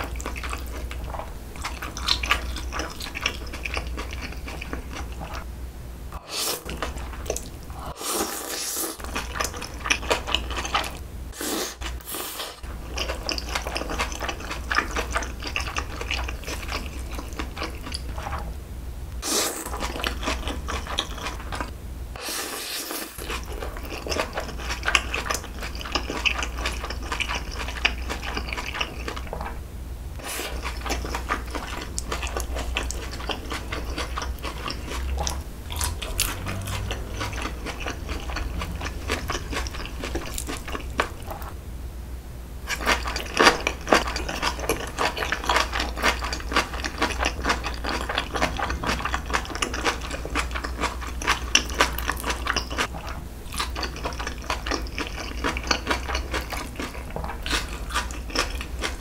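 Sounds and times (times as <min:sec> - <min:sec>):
person chewing food: 0:00.0 - 0:05.5, 0:06.2 - 0:18.5, 0:19.2 - 0:29.6, 0:30.2 - 0:41.6, 0:42.6 - 0:59.0.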